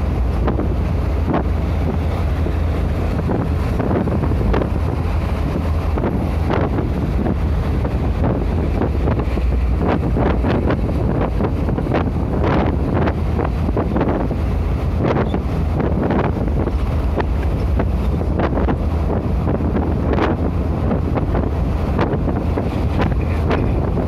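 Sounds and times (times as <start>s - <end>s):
road and engine rumble: 0.0s - 24.0s
wind buffeting microphone: 0.0s - 24.0s
wind noise: 0.0s - 24.0s.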